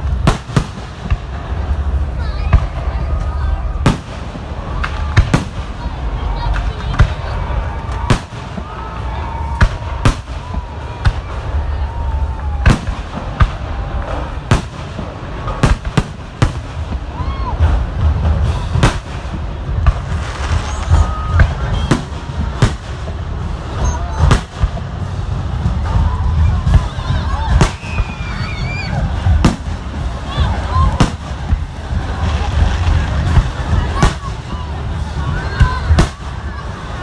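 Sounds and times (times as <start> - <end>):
fireworks exploding: 0.0 - 37.0
low rumble: 0.0 - 37.0.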